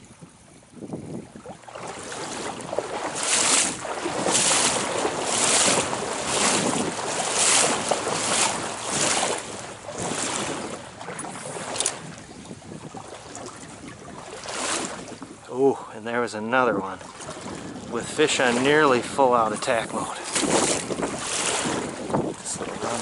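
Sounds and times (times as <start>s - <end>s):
moving water: 0.0s - 23.0s
splashing footsteps in water: 1.3s - 15.4s, 16.8s - 23.0s.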